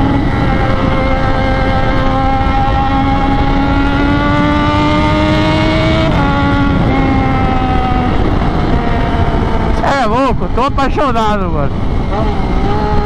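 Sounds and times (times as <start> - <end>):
motorcycle engine accelerating: 0.0 - 13.0
wind rush: 0.0 - 13.0.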